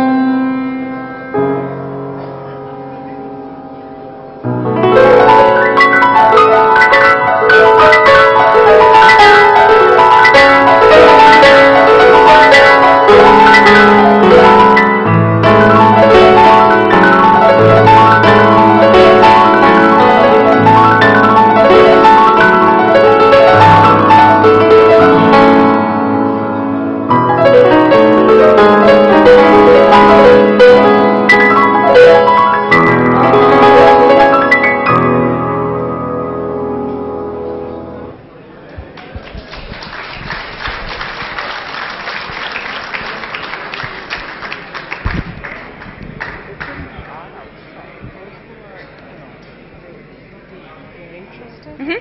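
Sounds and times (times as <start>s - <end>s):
grand piano solo: 0.0s - 48.4s.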